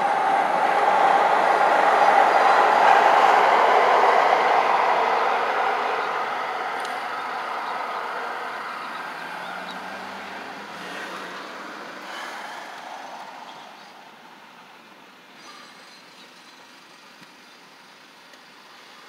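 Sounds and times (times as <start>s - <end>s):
light-rail train passing: 0.0s - 19.0s.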